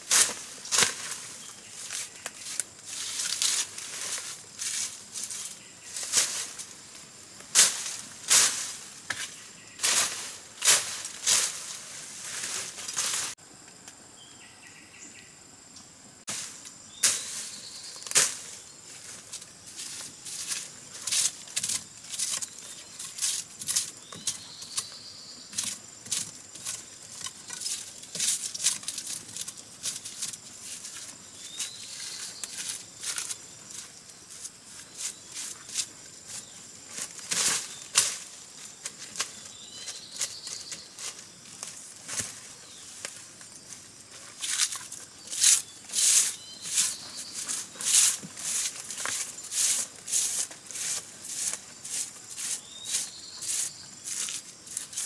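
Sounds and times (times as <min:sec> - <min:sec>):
leaves rustling and crunching: 0:00.0 - 0:13.4, 0:16.3 - 0:55.0.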